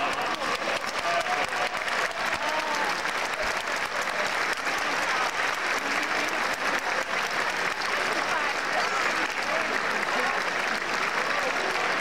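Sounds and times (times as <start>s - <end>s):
large crowd applauding: 0.0s - 12.0s.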